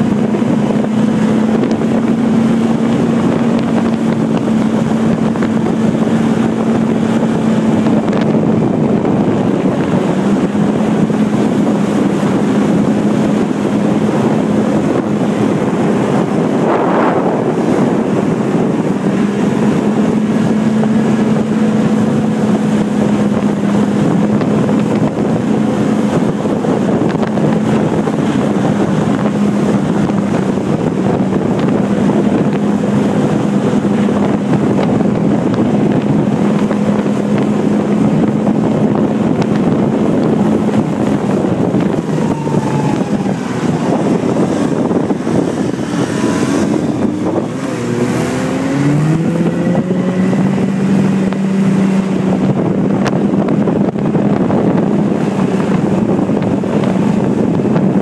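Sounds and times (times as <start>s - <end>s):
snowmobile engine running: 0.0s - 58.0s
wind noise on microphone: 0.0s - 58.0s.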